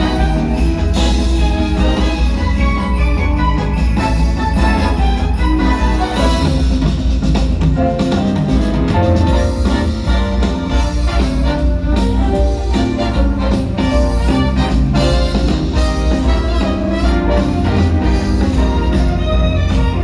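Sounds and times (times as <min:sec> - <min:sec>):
orchestral music over loudspeakers: 0:00.0 - 0:20.0.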